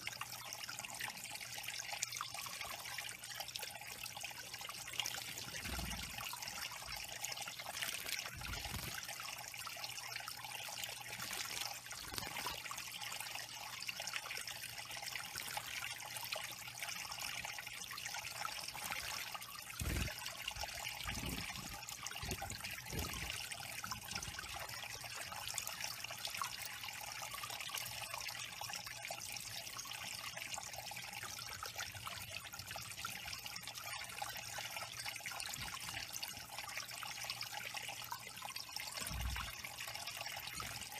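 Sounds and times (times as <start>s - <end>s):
water trickling over stones: 0.0s - 40.9s.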